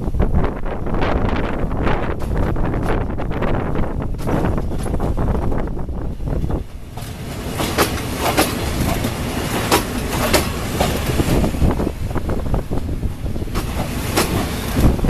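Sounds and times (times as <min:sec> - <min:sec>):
train coaches rumbling: 0:00.0 - 0:15.0
wheels clacking on rail joints: 0:01.4 - 0:15.0.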